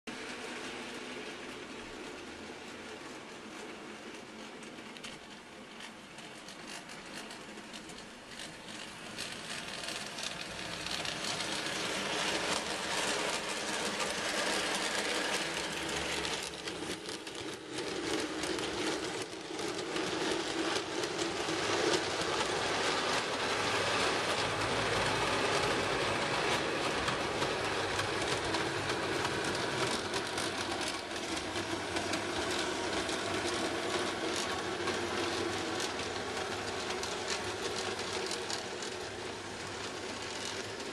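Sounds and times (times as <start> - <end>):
model train wheels clicking on rails: 0.1 - 40.9.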